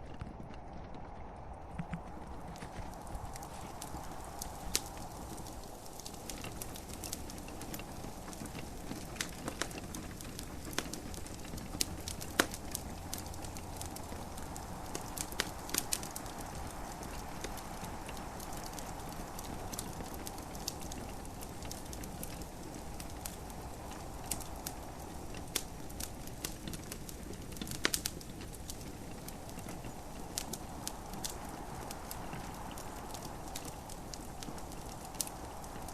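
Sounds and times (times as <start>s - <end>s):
gentle rain hiss: 0.0s - 35.9s
wood fire crackling and popping: 0.0s - 35.9s.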